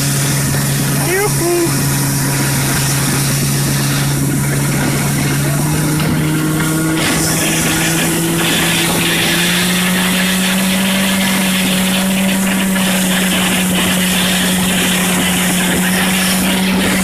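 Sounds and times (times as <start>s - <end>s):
engine running at speed: 0.0s - 17.0s
rushing wind or water: 0.0s - 17.0s.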